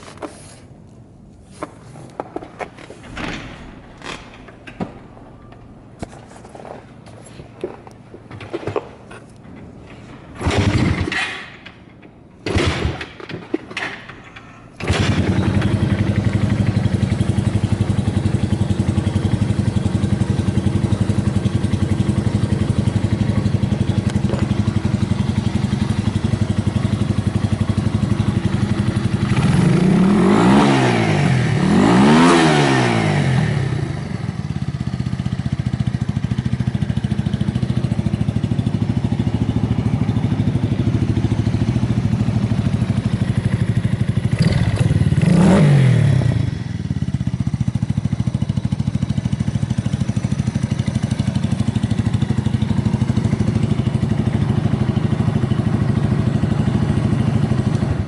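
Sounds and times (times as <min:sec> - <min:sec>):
motorcycle engine idling and revving: 0:01.0 - 0:14.2, 0:14.8 - 0:58.0.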